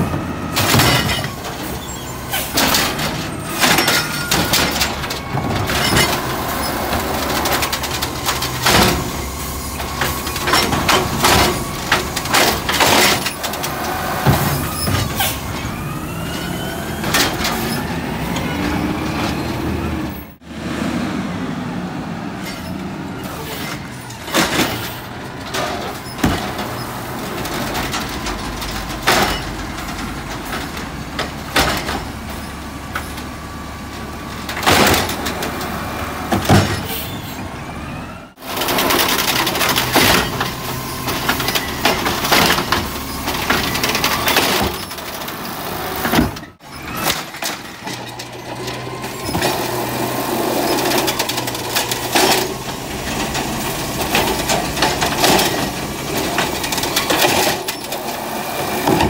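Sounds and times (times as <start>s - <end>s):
garbage truck running: 0.0s - 59.0s.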